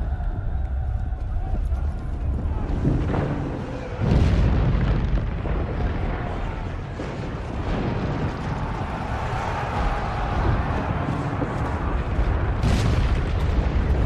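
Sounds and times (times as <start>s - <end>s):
deep rumble of avalanche: 0.0s - 14.0s
heavy boom: 2.3s - 14.0s.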